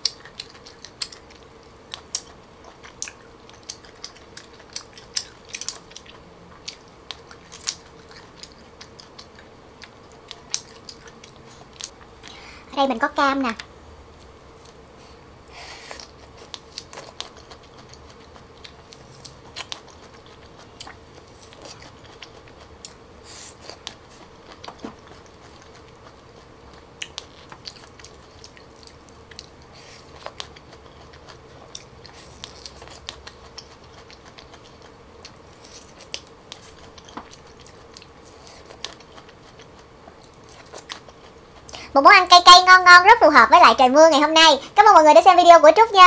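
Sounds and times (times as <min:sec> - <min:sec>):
person chewing juicy fruit: 0:00.0 - 0:12.6, 0:13.6 - 0:42.0
faint steady hum: 0:00.0 - 0:46.0.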